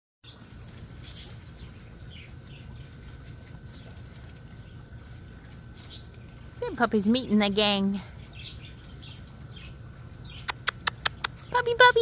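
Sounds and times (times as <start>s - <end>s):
birds chirping faintly: 0.2s - 12.0s.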